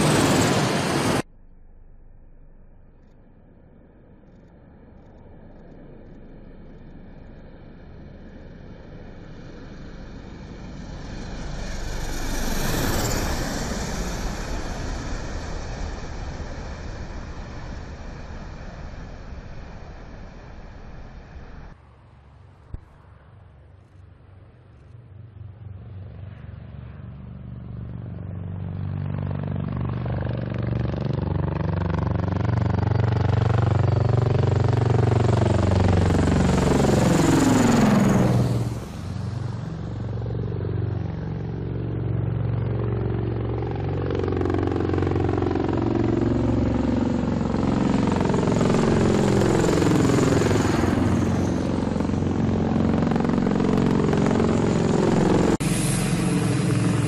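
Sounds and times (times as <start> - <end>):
loud engine passing by: 0.0 - 1.3, 8.3 - 21.8, 25.8 - 57.0.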